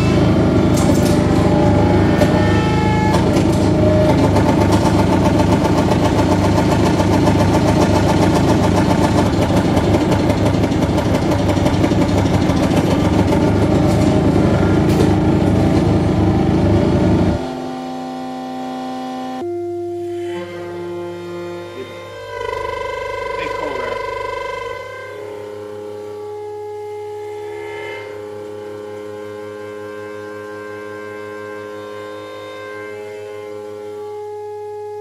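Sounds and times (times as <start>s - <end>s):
low steady drone: 0.0s - 35.0s
saxophone feedback noise music: 0.0s - 35.0s.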